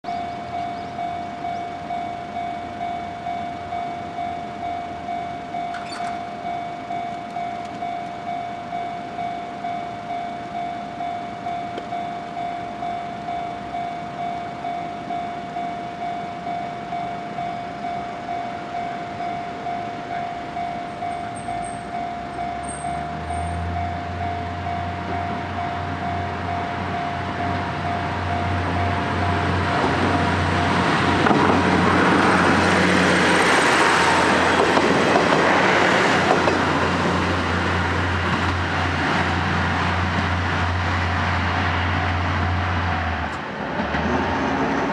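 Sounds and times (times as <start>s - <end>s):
level crossing warning bell: 0.0s - 43.0s
diesel railcar engine drone: 0.0s - 44.9s.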